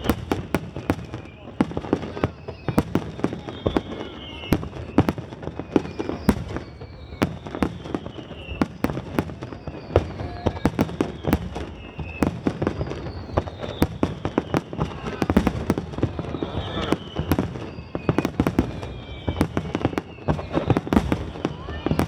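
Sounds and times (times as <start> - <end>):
fireworks bangs: 0.0 - 22.0
fireworks whistles: 0.0 - 22.0.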